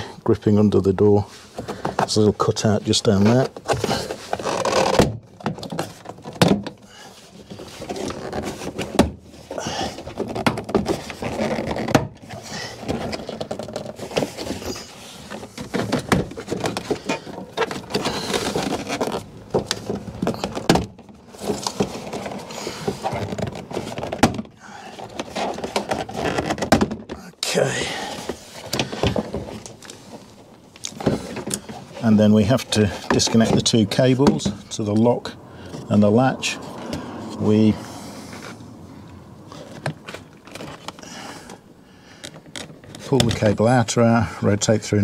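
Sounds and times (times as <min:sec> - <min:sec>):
plastic rustling and scraping: 0:00.0 - 0:45.0.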